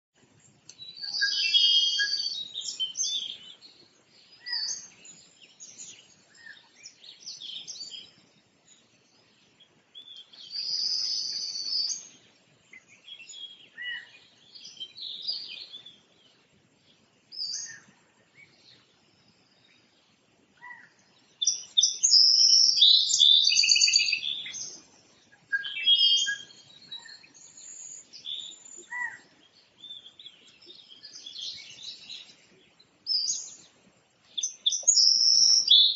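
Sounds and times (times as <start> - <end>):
birds chirping and singing: 0.4 - 35.9.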